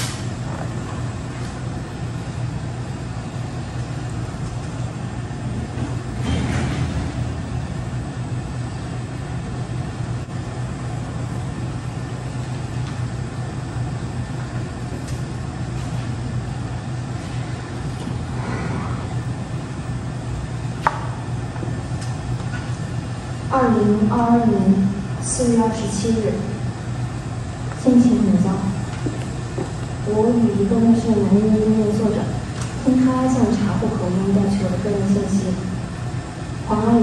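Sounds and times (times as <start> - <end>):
low rumble and hiss: 0.0 - 37.0.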